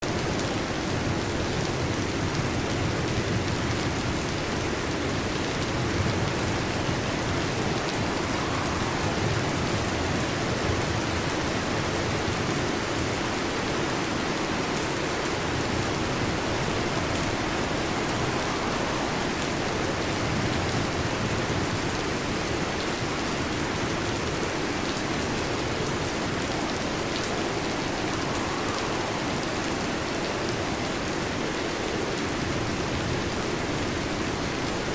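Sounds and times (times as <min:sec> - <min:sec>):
heavy rain on a metal roof: 0:00.0 - 0:34.9.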